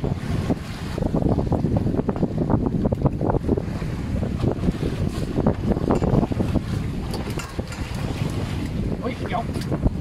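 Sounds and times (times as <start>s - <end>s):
choppy sea water: 0.0s - 10.0s
wind buffeting microphone: 0.0s - 10.0s.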